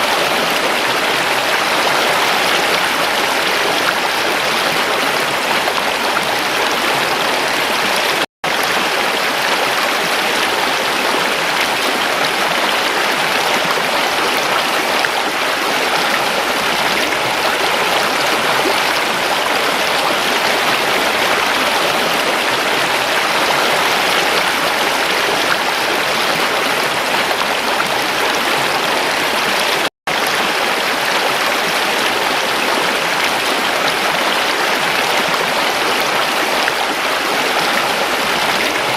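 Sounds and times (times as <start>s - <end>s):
stream water rushing and babbling: 0.0s - 38.9s.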